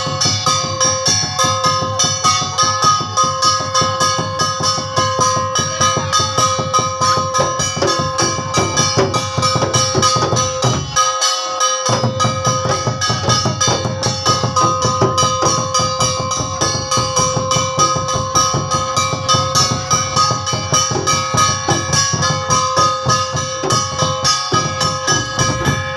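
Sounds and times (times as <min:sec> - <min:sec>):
keyboard melody over drum beat: 0:00.0 - 0:25.9.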